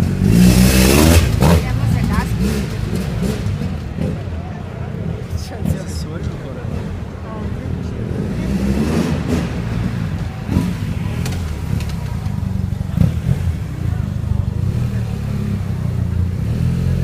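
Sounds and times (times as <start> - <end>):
motorcycle engine revving: 0.0 - 6.0, 6.6 - 17.0.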